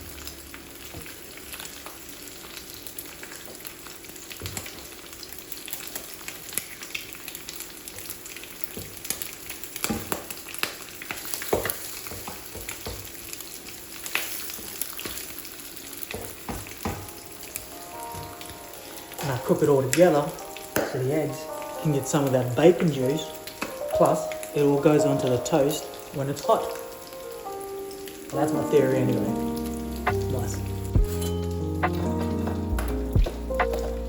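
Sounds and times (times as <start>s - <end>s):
bacon and eggs sizzling in a pan: 0.0s - 30.5s.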